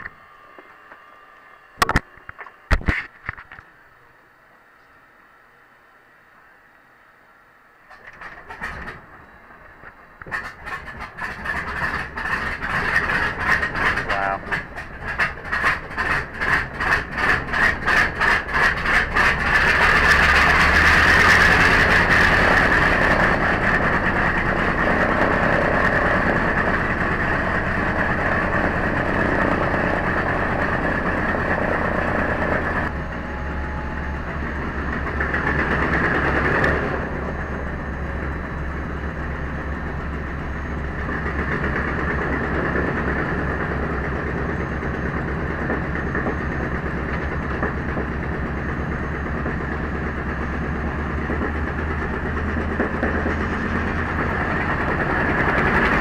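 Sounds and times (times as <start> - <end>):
radial aircraft engine starting: 7.6 - 56.0.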